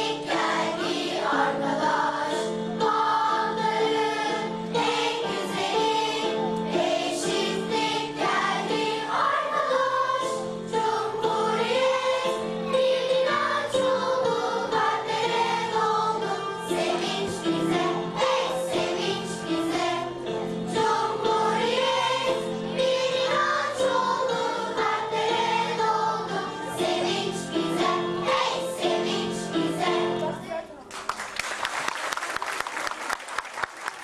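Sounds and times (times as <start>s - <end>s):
choir singing: 0.0s - 30.4s
musical accompaniment: 0.0s - 30.8s.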